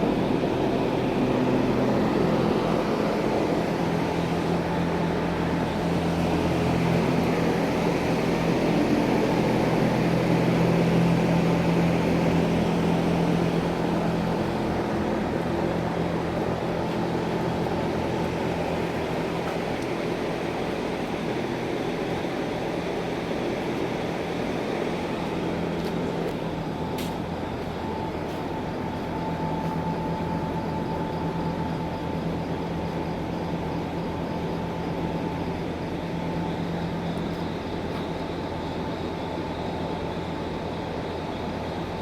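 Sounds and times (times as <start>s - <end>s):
steady mechanical drone: 0.0s - 42.0s.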